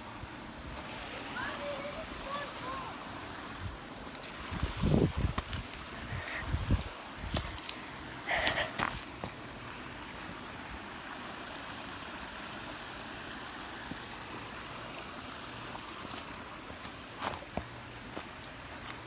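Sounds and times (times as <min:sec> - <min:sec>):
creek water running: 0:00.0 - 0:19.0.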